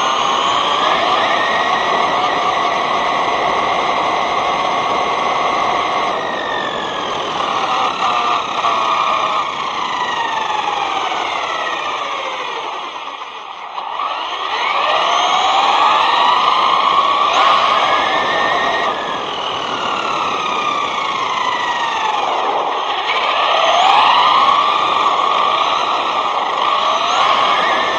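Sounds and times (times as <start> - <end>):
electric motor whining: 0.0 - 27.9
tyres and drivetrain rushing: 0.0 - 27.9.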